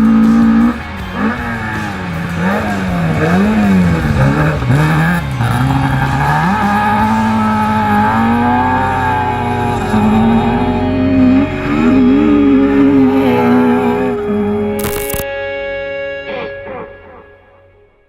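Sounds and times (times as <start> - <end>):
rally car engine revving: 0.0 - 15.2.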